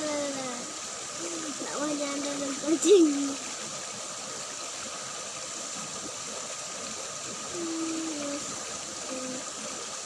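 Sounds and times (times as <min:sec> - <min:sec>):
water running in a ditch: 0:00.0 - 0:10.0.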